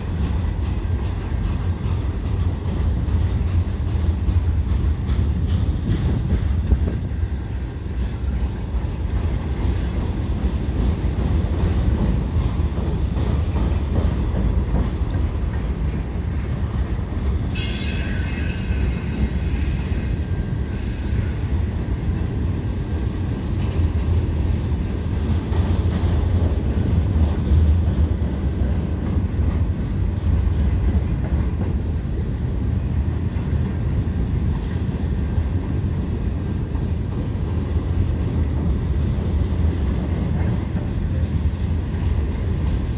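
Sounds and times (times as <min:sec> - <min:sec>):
freight train cars rumbling: 0:00.0 - 0:42.9.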